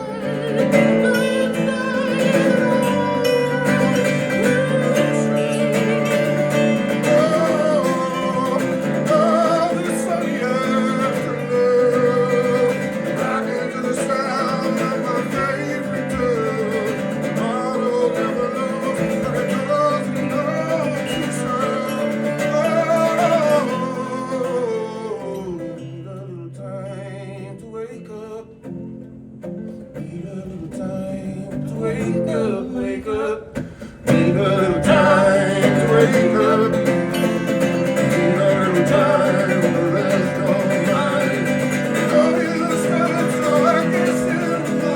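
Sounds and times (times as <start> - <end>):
person singing: 0.0 - 28.7, 29.8 - 44.9
acoustic guitar strummed and picked: 0.0 - 44.9.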